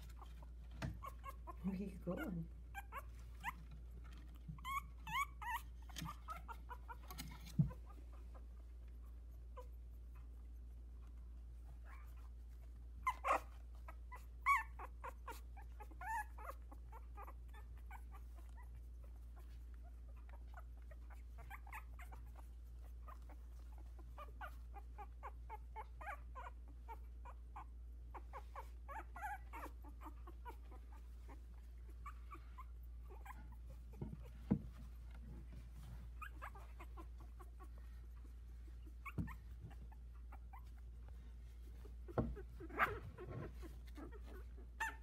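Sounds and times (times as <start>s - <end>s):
puppies whimpering and squeaking: 0.0s - 45.0s.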